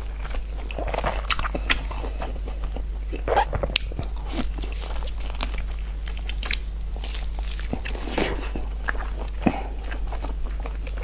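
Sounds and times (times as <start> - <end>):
person crunching and chewing: 0.0 - 11.0
steady low hum: 0.0 - 11.0.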